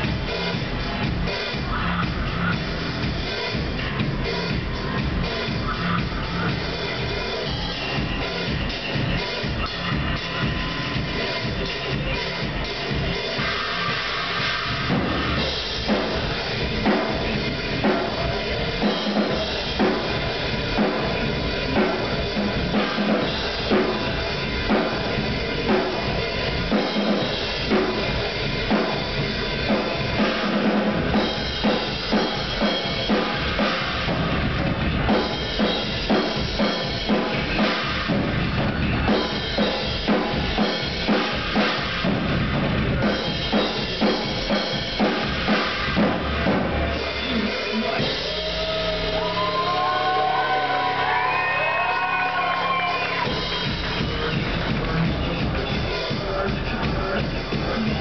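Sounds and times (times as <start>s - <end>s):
drum kit played hard: 0.0s - 58.0s.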